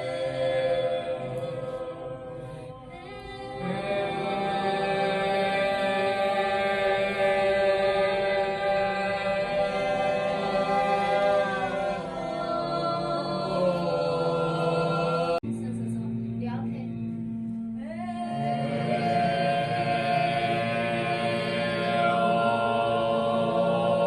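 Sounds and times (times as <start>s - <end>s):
voices singing chant-like tones: 0.0s - 15.4s, 17.8s - 24.0s
low steady drone: 0.0s - 24.0s.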